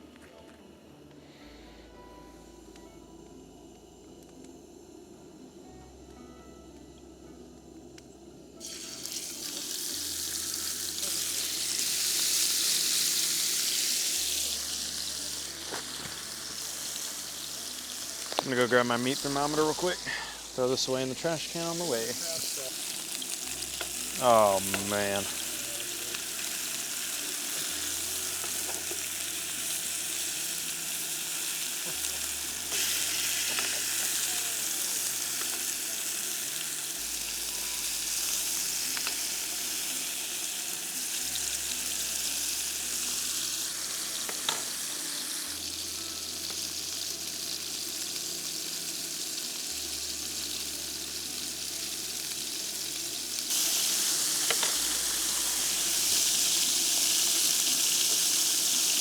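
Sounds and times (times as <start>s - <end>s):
steaks sizzling on a griddle: 8.6s - 59.0s.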